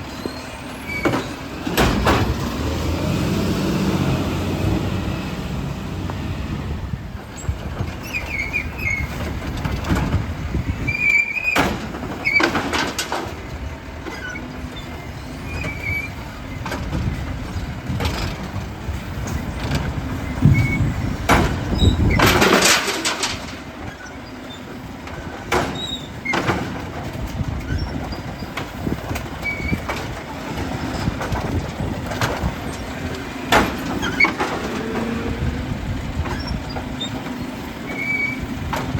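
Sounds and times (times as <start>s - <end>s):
garbage truck engine rumbling: 0.0s - 38.9s.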